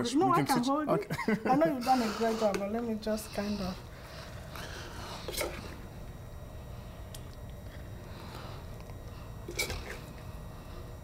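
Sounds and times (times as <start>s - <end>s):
kitchen room hum: 0.0s - 11.0s.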